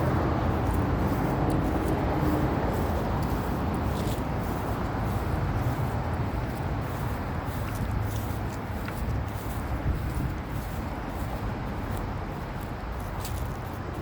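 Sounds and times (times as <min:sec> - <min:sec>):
road traffic rumble: 0:00.0 - 0:14.0
vehicle low hum: 0:00.0 - 0:14.0.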